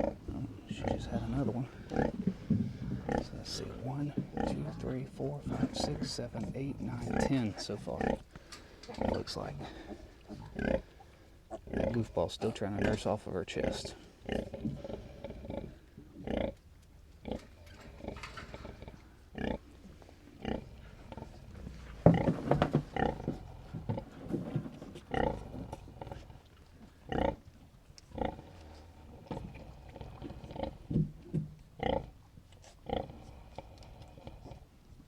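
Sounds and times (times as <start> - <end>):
pig grunting: 0.0 - 16.6, 17.2 - 19.7, 20.4 - 27.4, 28.1 - 30.9, 31.8 - 34.7.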